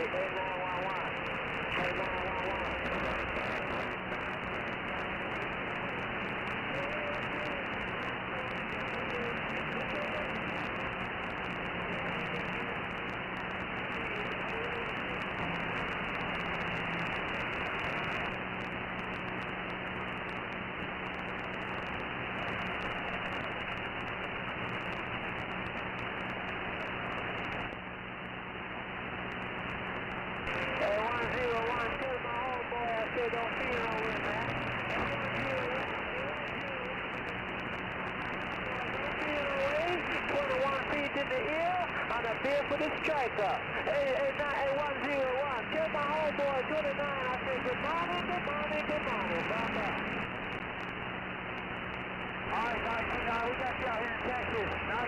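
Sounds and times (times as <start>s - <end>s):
radio static hiss: 0.0s - 55.0s.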